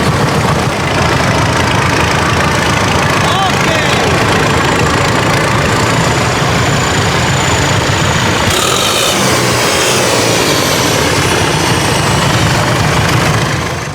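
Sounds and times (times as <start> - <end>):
tractor engine running: 0.0 - 13.9.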